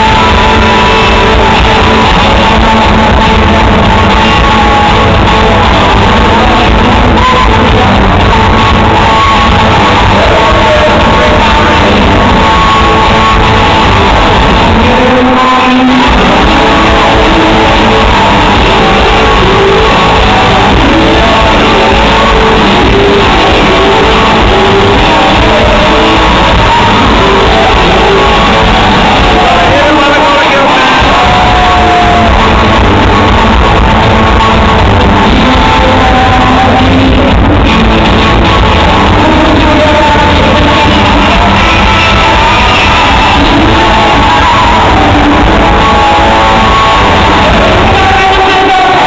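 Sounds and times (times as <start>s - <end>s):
drums: 0.0s - 49.0s
electric guitars: 0.0s - 49.0s
live rock band playing: 0.0s - 49.0s
person singing: 0.0s - 49.0s.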